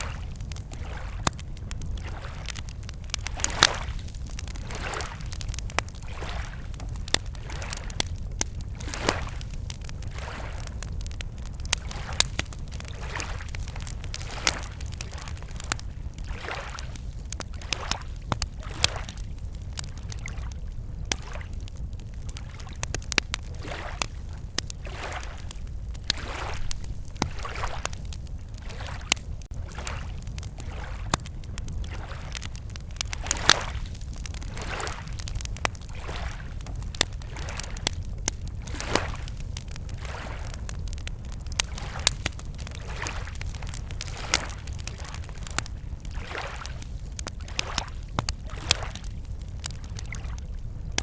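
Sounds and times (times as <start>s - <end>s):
lake waves lapping at shore: 0.0s - 1.4s, 2.0s - 10.7s, 11.7s - 19.3s, 20.0s - 21.5s, 22.3s - 41.0s, 41.6s - 49.0s
campfire crackling and popping: 0.0s - 51.0s.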